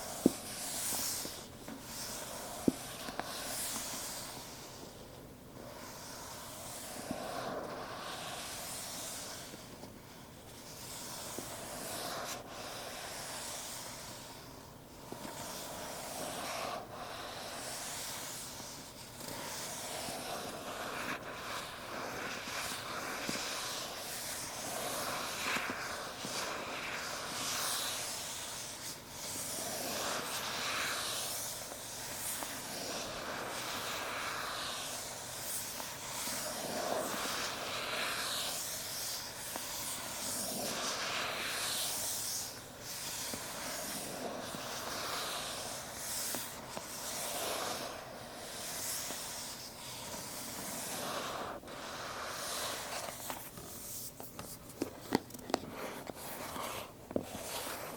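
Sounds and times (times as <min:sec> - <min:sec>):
fingers rubbing cardboard: 0:10.5 - 0:57.9.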